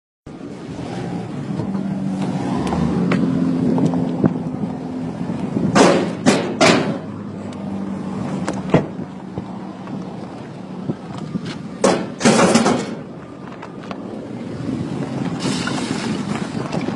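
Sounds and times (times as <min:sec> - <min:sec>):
car engine humming: 0:00.3 - 0:16.9.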